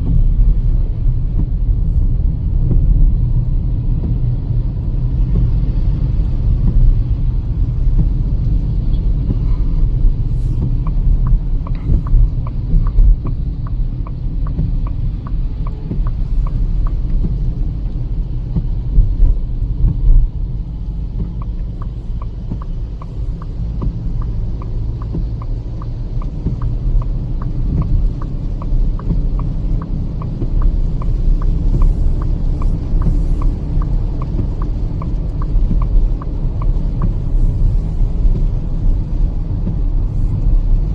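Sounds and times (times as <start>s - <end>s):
car road and engine rumble: 0.0s - 40.9s
turn signal ticking: 0.0s - 40.9s.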